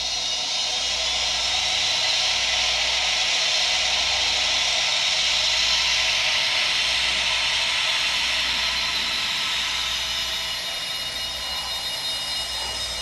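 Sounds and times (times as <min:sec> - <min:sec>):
turbine whine and hiss from speaker: 0:00.0 - 0:13.0.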